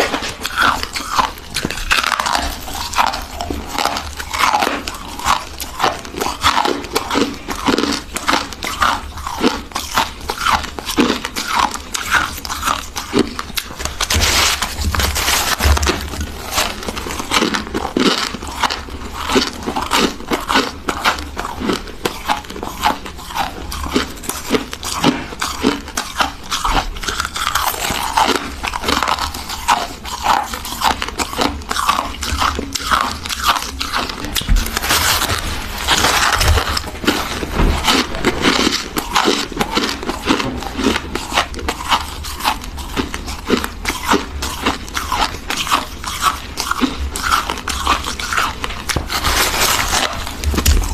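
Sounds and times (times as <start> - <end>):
crunching and chewing frost: 0.0 - 50.9.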